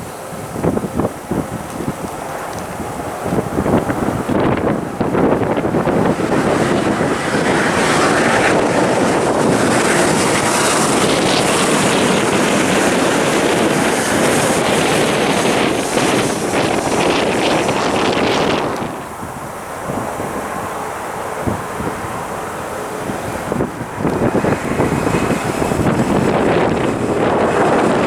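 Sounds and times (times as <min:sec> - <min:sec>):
jet airliner engines roaring: 0:00.0 - 0:28.0
wind buffeting microphone: 0:00.0 - 0:28.0.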